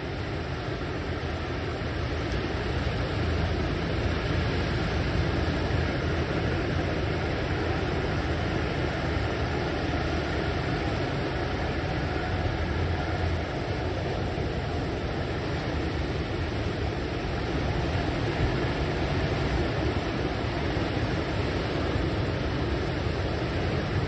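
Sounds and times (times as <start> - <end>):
breaking surf rushing: 0.0 - 24.0.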